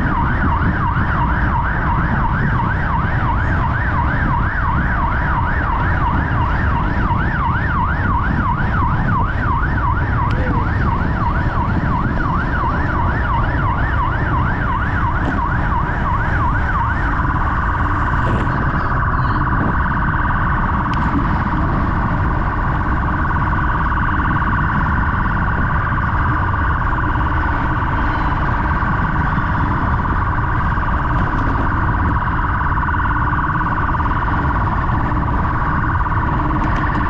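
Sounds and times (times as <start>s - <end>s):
emergency siren yelping: 0.0s - 37.0s
wind rumble on microphone: 0.0s - 37.0s.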